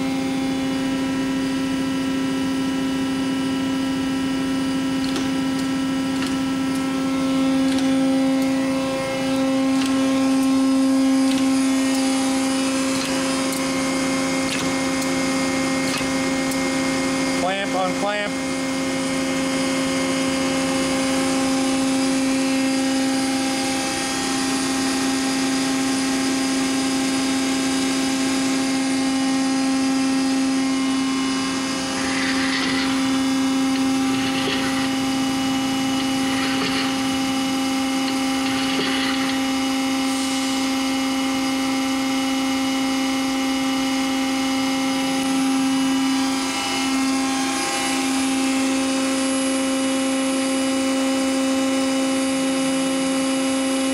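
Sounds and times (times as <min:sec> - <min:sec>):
hydraulic power unit humming: 0:00.0 - 0:53.9.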